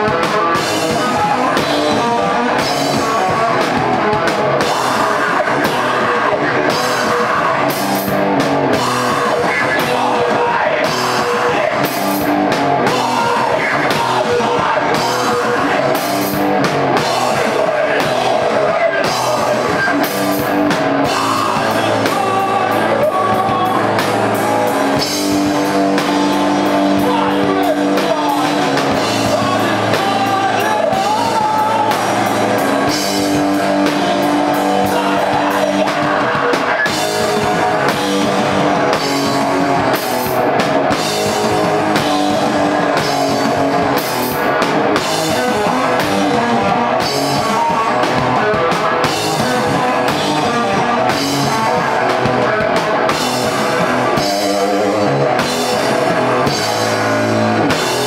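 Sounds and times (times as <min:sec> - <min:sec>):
drum kit beat: 0:00.0 - 0:58.0
electric guitar: 0:00.0 - 0:58.0
person singing: 0:00.0 - 0:58.0.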